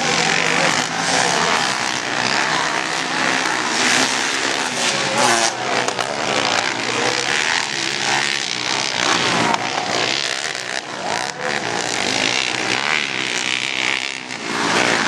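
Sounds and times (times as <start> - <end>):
quad engines revving: 0.0 - 15.0.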